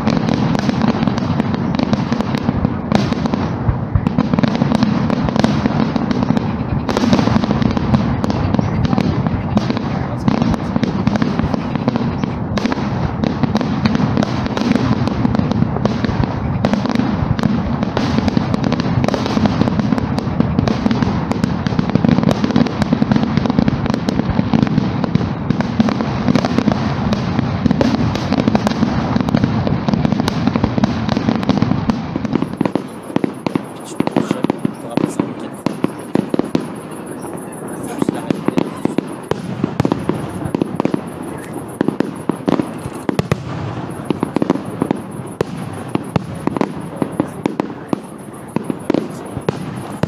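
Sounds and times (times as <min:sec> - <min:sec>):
fireworks bursting and crackling: 0:00.0 - 0:50.0.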